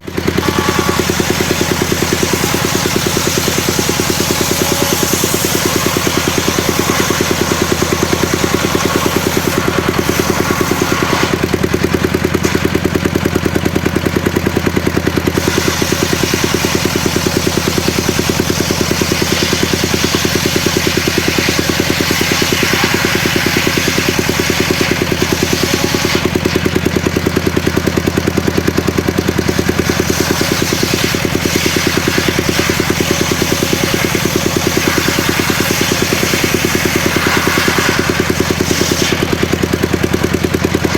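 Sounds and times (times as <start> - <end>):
circular saw engine running: 0.0 - 40.9.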